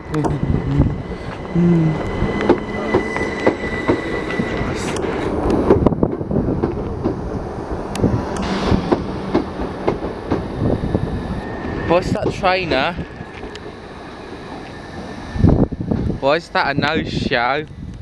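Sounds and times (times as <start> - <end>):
steady high tone: 0.0 - 16.4
train rumbling along track: 0.0 - 18.0.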